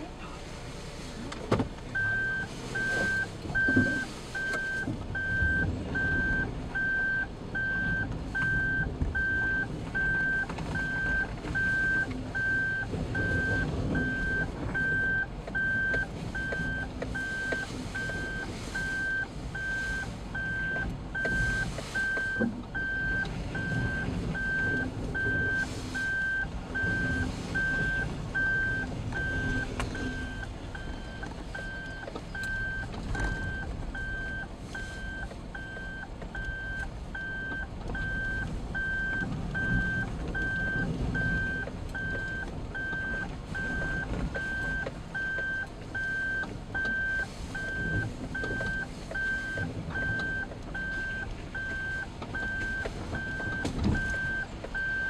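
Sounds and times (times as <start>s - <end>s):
engine and tyre noise: 0.0s - 55.0s
reverse warning beep: 2.0s - 55.0s.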